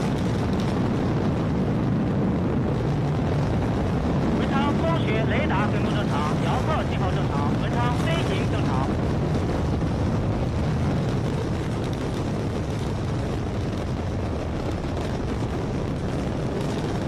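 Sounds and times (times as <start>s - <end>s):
rocket engines rumbling: 0.0s - 17.0s.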